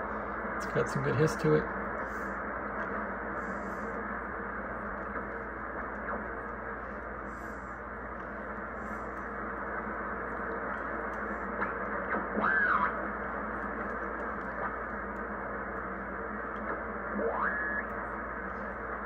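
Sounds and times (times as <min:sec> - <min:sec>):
radio band hiss: 0:00.0 - 0:19.0.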